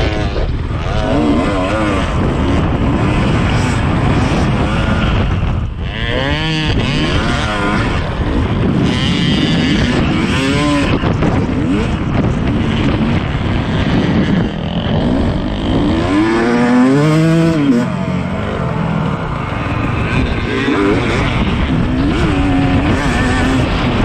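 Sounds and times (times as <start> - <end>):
dirt bike engine revving: 0.0 - 24.0
wind noise on microphone: 0.0 - 24.0.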